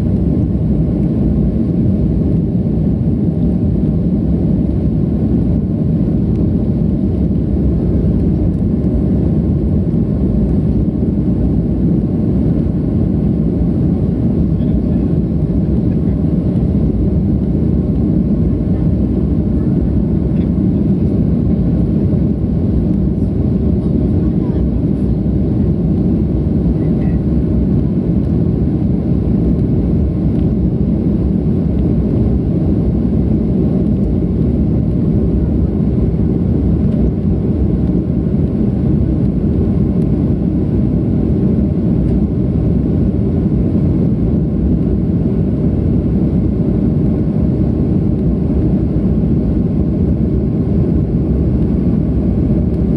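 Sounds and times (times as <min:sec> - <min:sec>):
jet cabin engine rumble: 0:00.0 - 0:52.9.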